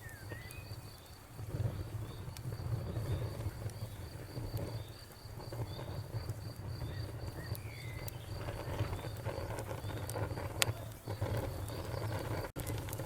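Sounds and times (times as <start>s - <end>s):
crickets chirping: 0.0s - 12.5s
wood fire crackling and popping: 0.0s - 13.0s.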